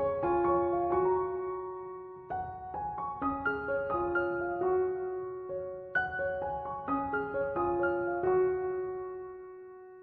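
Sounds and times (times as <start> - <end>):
gentle keyboard melody: 0.0 - 10.0.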